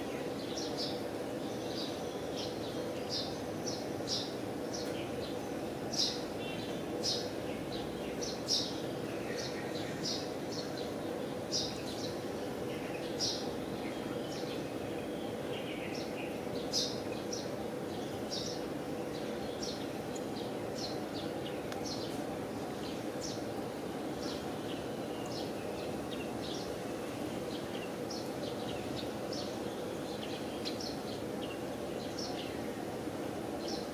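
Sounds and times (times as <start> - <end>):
low background hum: 0.0 - 33.9
small birds chirping: 0.0 - 33.9.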